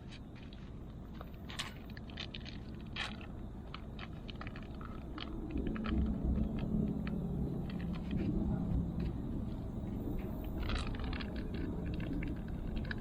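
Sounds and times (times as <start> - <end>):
light ticks and crunches: 0.0 - 13.0
low rumble: 0.0 - 13.0
vehicle engine hum: 0.0 - 13.0.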